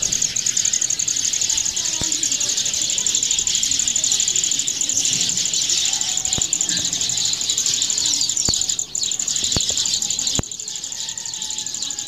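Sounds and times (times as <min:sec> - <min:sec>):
pulsing insect chorus: 0:00.0 - 0:12.0.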